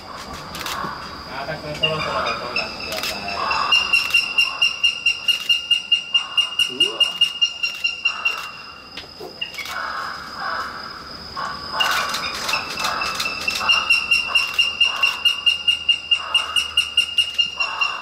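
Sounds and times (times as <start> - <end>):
crows cawing: 0.0 - 8.8, 9.6 - 18.0.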